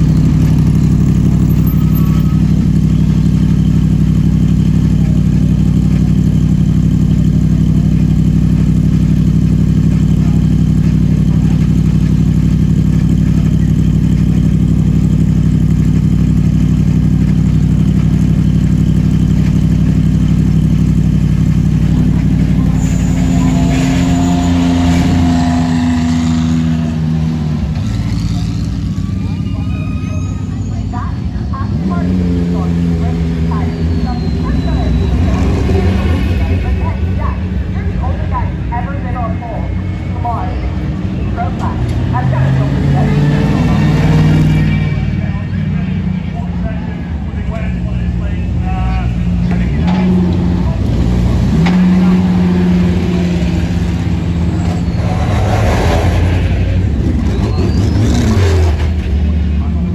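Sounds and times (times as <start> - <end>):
race car engine idling: 0.0 - 59.9
race car moving off: 0.0 - 59.9.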